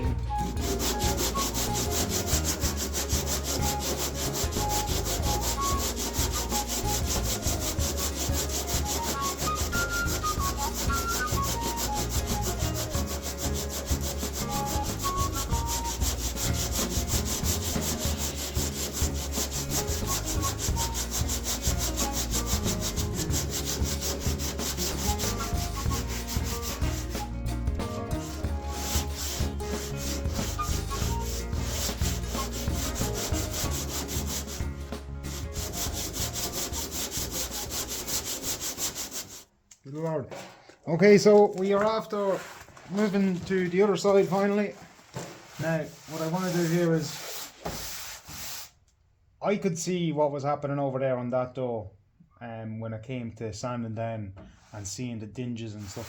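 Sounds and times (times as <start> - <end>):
sandpaper scraping metal panel: 0.4 - 39.5, 41.8 - 48.8, 55.8 - 56.0.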